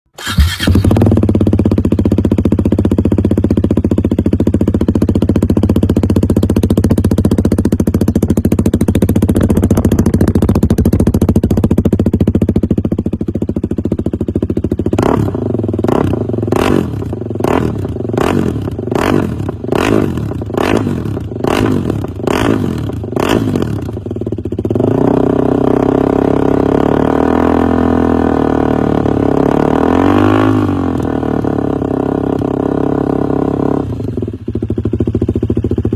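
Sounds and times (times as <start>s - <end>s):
motorcycle engine revving: 0.1s - 35.9s
motorcycle engine idling: 0.2s - 35.9s.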